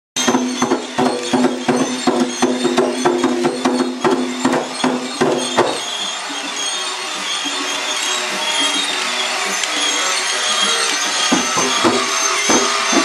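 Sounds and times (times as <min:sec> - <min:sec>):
music with percussive beat: 0:00.2 - 0:13.0.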